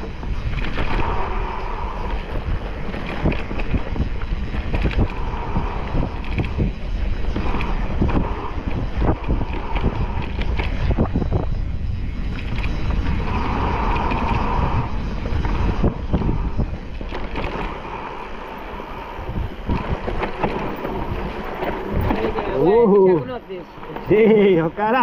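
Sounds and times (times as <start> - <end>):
bike knocking and rattling: 0.0 - 25.0
wind buffeting microphone: 0.0 - 25.0.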